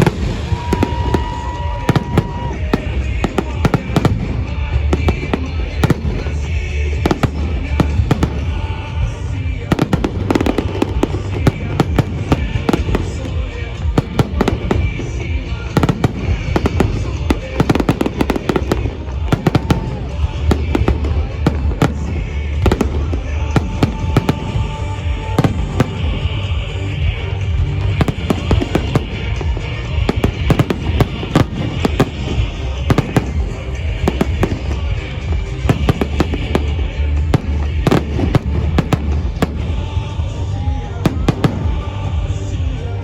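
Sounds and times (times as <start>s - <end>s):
fireworks bangs and crackles: 0.0s - 43.0s
music playing: 0.0s - 43.0s.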